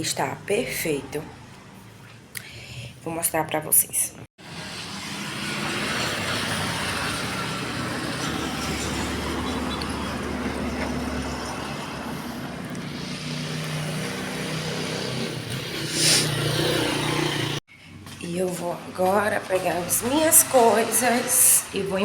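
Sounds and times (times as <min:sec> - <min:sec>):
vehicles passing: 0:00.0 - 0:03.0, 0:04.2 - 0:22.0.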